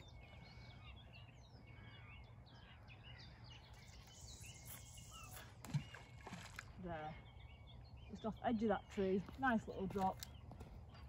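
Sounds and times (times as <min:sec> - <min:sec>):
small birds chirping and warbling: 0:00.0 - 0:11.0.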